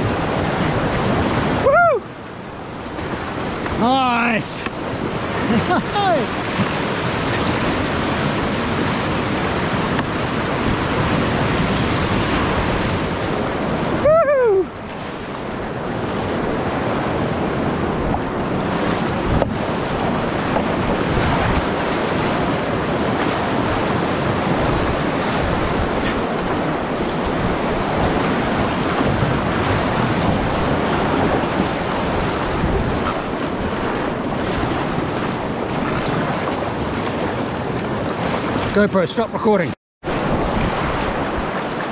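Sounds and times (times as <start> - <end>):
wind buffeting microphone: 0.0 - 38.8, 40.0 - 41.9
whitewater rapids rushing: 3.0 - 41.9.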